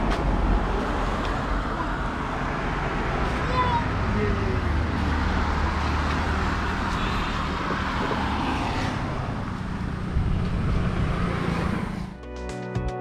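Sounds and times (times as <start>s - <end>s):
traffic rumble and hiss: 0.0s - 12.2s.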